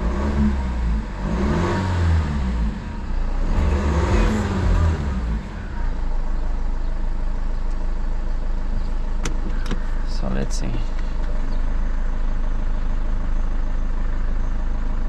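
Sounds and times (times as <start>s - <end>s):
diesel engine idling with surging revs: 0.0s - 15.0s.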